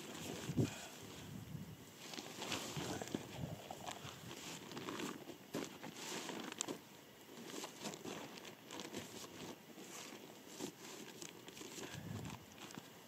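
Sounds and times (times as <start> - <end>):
plastic tarp crinkling: 2.0 - 12.9.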